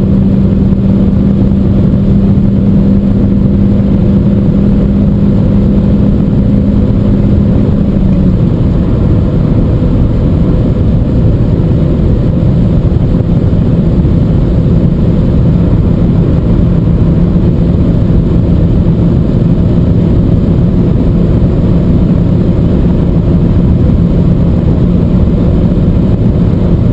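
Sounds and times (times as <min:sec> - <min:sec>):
car engine running hard: 0:00.0 - 0:26.9
road rumble: 0:00.0 - 0:26.9
wind noise: 0:00.0 - 0:26.9.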